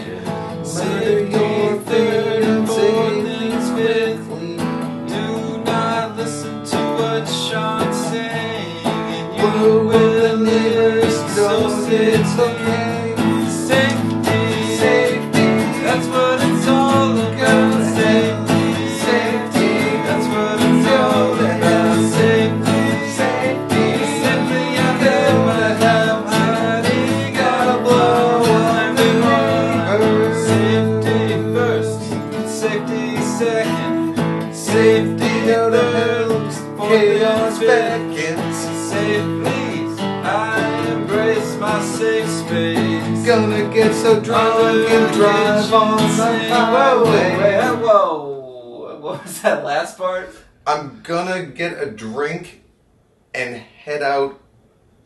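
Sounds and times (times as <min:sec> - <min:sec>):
acoustic guitars strummed: 0:00.0 - 0:48.0
men singing: 0:00.0 - 0:48.1.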